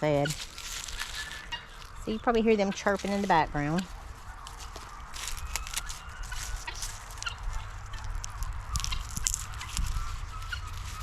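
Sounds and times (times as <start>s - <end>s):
guinea fowl chirping: 0.1s - 11.0s.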